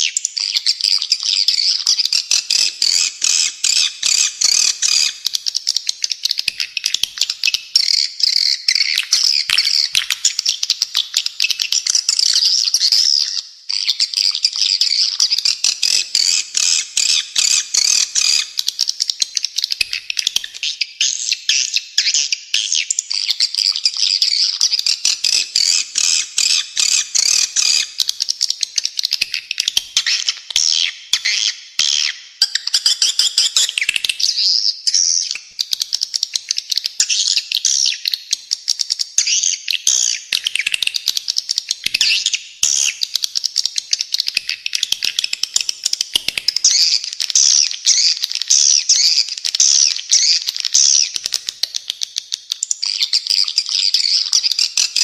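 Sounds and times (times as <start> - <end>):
high bird chirps: 0.0 - 55.0.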